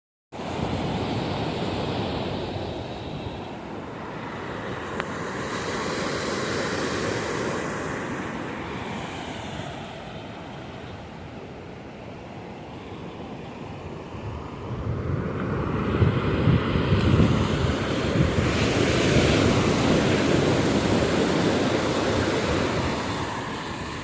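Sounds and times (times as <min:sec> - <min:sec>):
rushing outdoor noise: 0:00.3 - 0:24.0.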